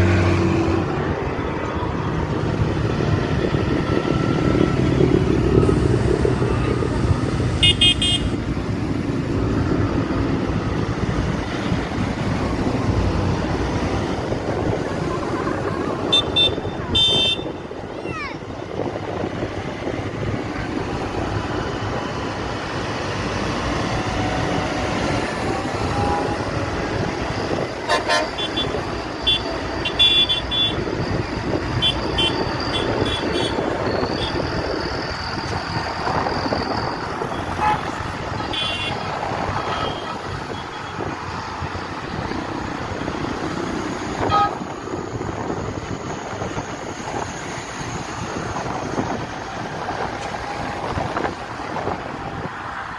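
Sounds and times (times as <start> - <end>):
diesel tractors driving past: 0.0 - 52.9.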